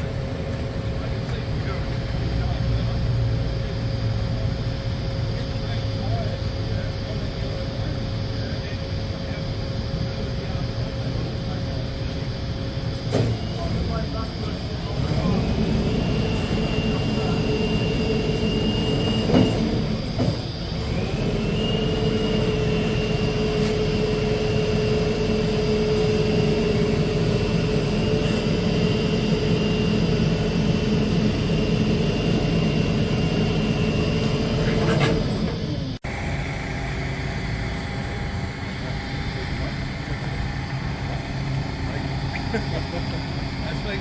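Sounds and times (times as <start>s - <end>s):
high whine: 0.0s - 44.0s
truck engine drone: 0.0s - 44.0s.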